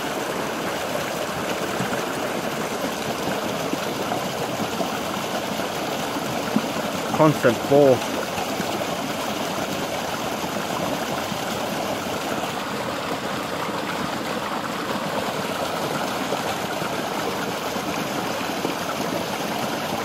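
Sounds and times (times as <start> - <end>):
water pouring onto water wheel: 0.0 - 20.0.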